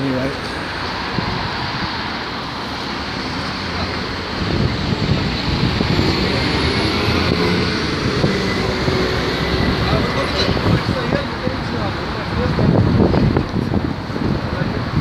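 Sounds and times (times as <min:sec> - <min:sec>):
road vehicles passing: 0:00.0 - 0:15.0.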